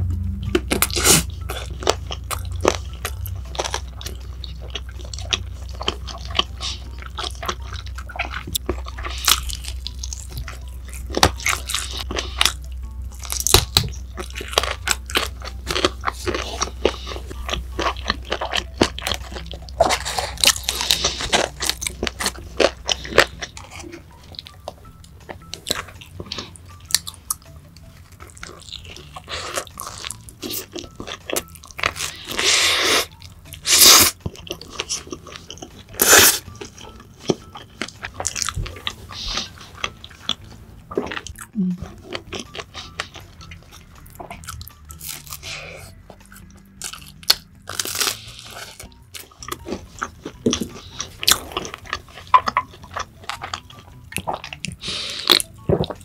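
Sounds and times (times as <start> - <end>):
crunchy food chewing: 0.6 - 56.0.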